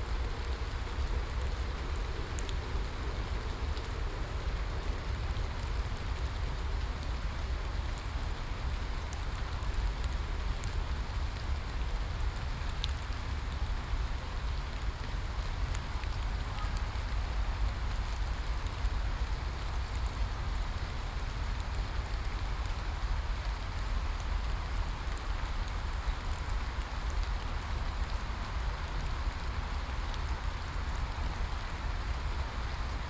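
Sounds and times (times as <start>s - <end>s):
raindrop ticks: 0.1s - 33.0s.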